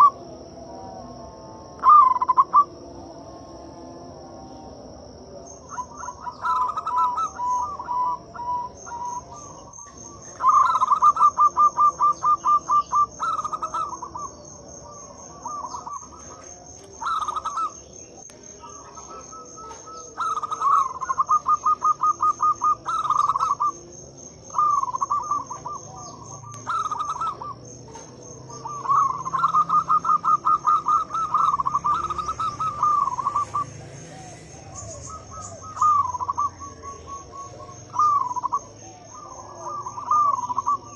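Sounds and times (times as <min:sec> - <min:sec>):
dove cooing: 0:00.0 - 0:40.9
steady high-pitched buzz: 0:00.0 - 0:40.9.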